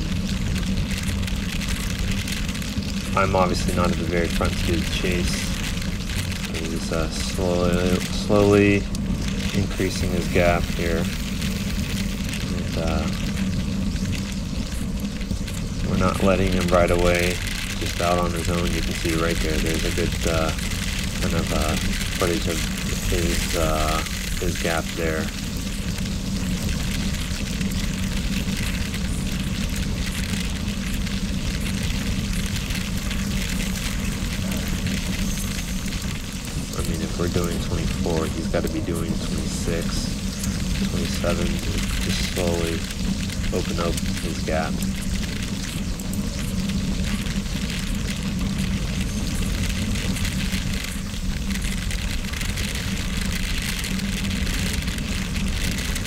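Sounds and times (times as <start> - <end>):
bicycle tyres rolling on gravel: 0.0 - 56.0
wind rush on microphone: 0.0 - 56.0.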